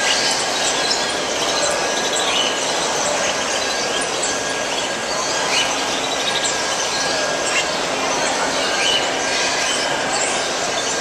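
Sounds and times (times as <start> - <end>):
crowd hubbub: 0.0 - 11.0.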